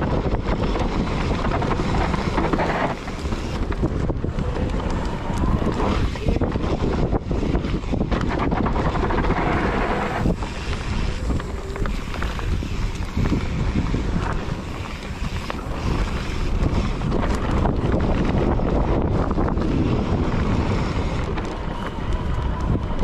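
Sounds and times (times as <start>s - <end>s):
bike clicks and rattles: 0.0s - 23.0s
tyres rumbling on dirt: 0.0s - 23.0s
wind buffeting microphone: 0.0s - 23.0s.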